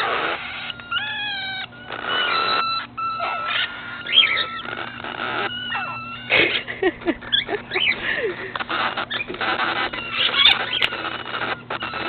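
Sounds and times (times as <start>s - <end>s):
cockatiels whistling chirps: 0.0s - 6.3s, 7.3s - 8.0s, 8.6s - 12.0s
cockatiels screeching: 0.0s - 12.0s.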